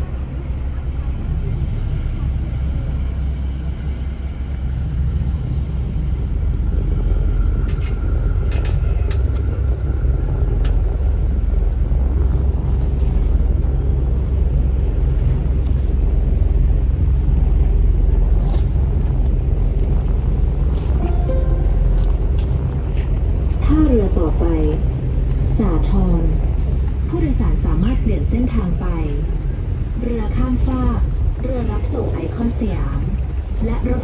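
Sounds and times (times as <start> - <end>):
boat engine rumble: 0.0 - 34.0
wind noise on microphone: 0.0 - 34.0.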